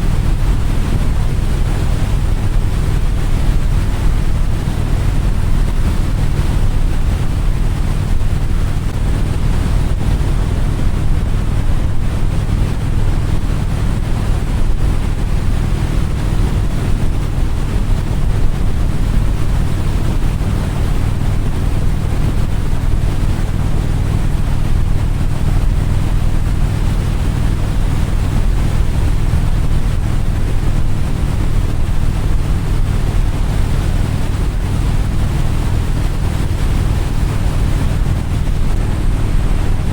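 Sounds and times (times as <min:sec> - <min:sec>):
low engine drone: 0:00.0 - 0:39.9
wind rushing over microphone: 0:00.0 - 0:39.9.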